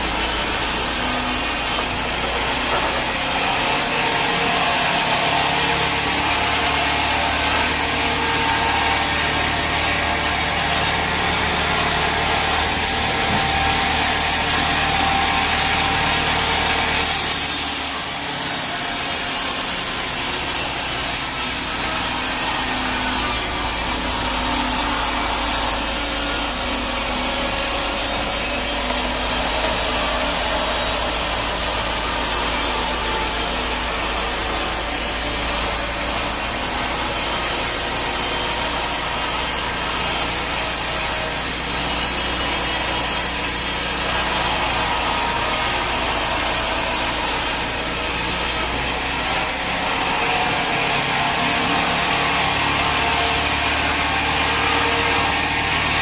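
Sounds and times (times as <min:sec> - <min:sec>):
bandsaw cutting log: 0:00.0 - 0:56.0.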